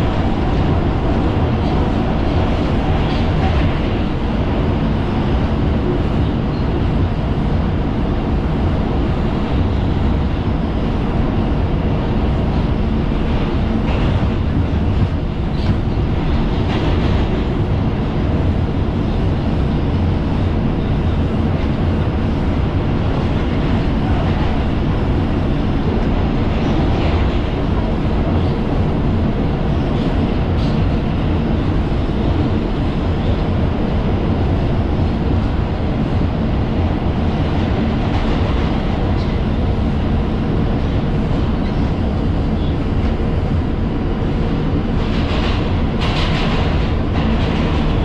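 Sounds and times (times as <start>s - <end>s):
subway wheels rumbling on rail: 0.0s - 48.0s.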